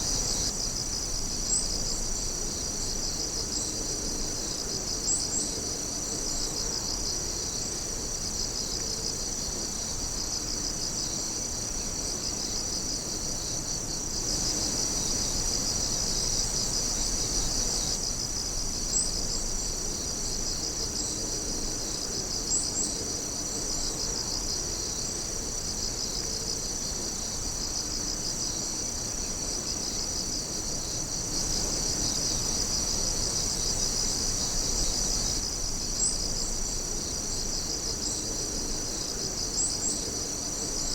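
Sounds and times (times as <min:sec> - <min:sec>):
night insects chirping and trilling: 0:00.0 - 0:40.9.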